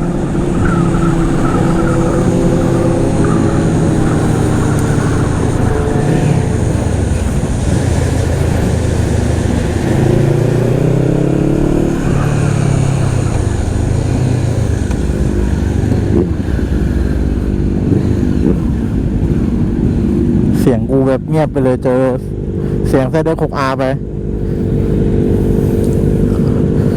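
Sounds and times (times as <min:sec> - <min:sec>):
motorcycle engines: 0:00.0 - 0:26.9
wind rush: 0:00.0 - 0:26.9.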